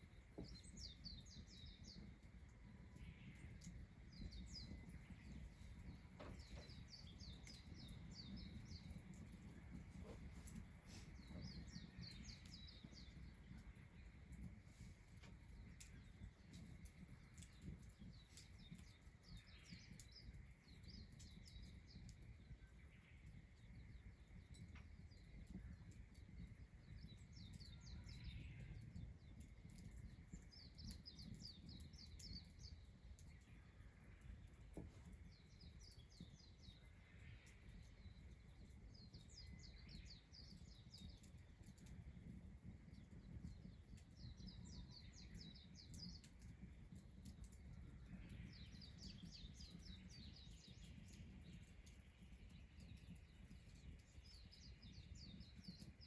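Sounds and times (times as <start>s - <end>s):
faint songbird chirping: 0.0s - 56.0s.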